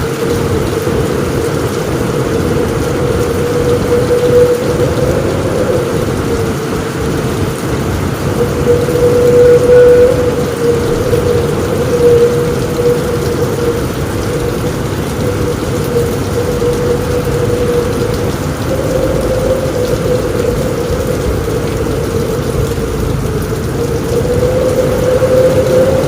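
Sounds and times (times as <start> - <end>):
low thunder rumble: 0.0 - 26.0
rain drumming on a roof: 0.0 - 26.0.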